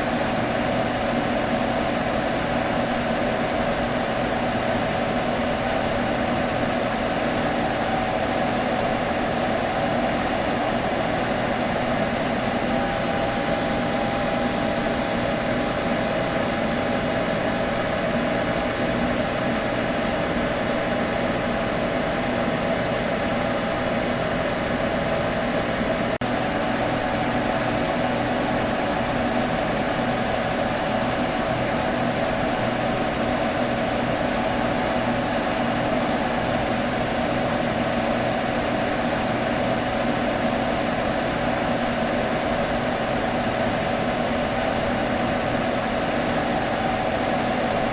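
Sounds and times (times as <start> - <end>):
computer fan humming: 0.0 - 47.9.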